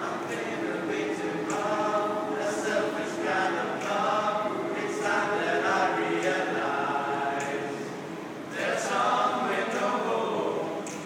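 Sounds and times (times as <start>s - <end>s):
choir singing unaccompanied: 0.0s - 11.0s.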